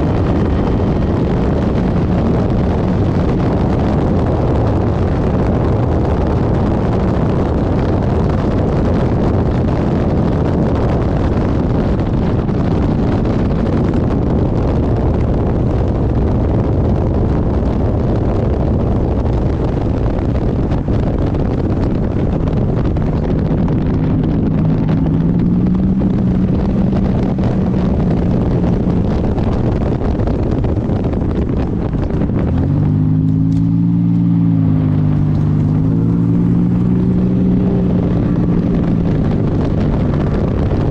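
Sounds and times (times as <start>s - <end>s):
race car engine running: 0.0s - 40.9s
wind and road noise: 0.0s - 40.9s.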